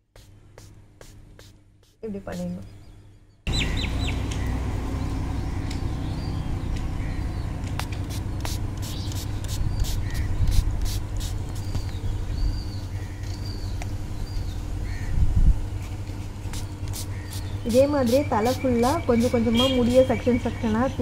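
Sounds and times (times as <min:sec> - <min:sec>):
birds chirping: 0:00.2 - 0:21.0
steady low rumble: 0:03.5 - 0:21.0.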